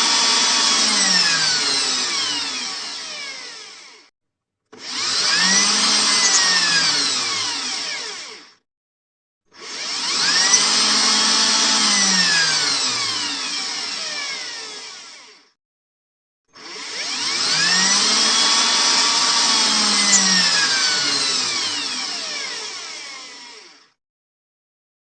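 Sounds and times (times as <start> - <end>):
electric drill spinning: 0.0 - 4.1, 4.7 - 8.6, 9.5 - 15.6, 16.6 - 24.0.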